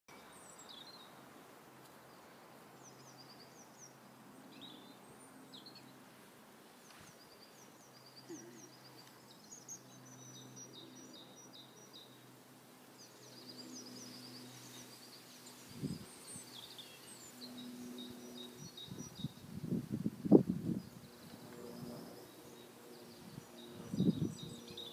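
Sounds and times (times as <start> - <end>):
small birds chirping: 0.1 - 1.2, 1.8 - 6.0, 6.8 - 24.9.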